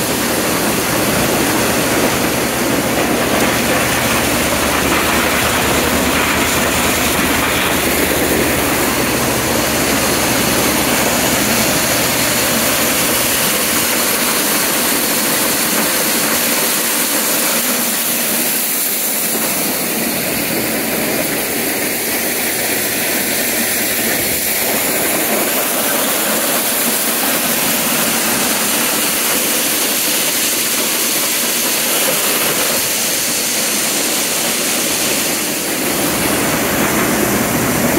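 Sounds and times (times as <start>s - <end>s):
corn sheller mechanical din: 0.0s - 37.9s
tractor engine running: 0.0s - 37.9s.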